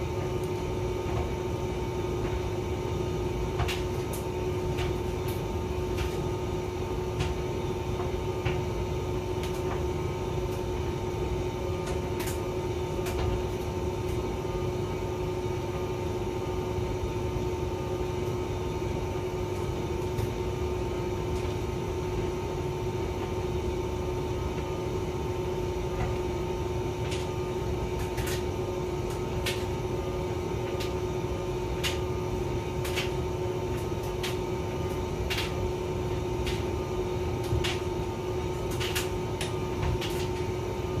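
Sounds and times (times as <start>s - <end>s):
tumble dryer running: 0.0s - 41.0s.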